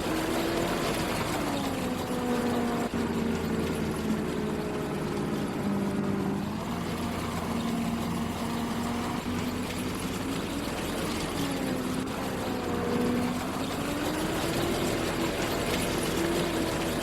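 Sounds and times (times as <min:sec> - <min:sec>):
machinery engine running: 0:00.0 - 0:17.0.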